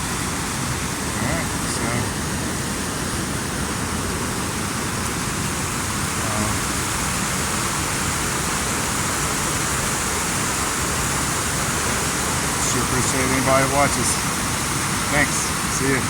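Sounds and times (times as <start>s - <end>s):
water pouring down a waterfall: 0.0s - 16.0s.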